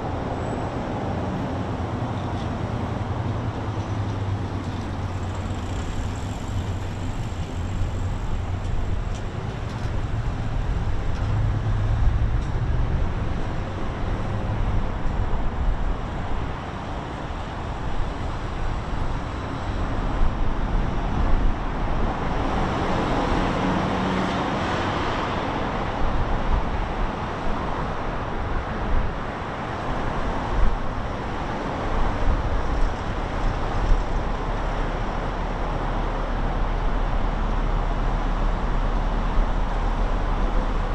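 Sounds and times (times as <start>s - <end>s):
cars passing: 0.0s - 40.9s.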